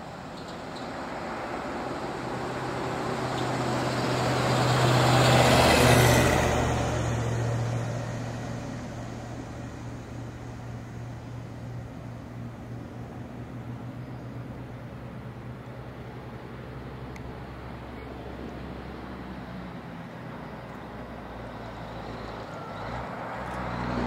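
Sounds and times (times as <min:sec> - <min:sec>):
tyre and road noise: 0:00.0 - 0:24.0
vehicle engine passing by: 0:01.2 - 0:24.0.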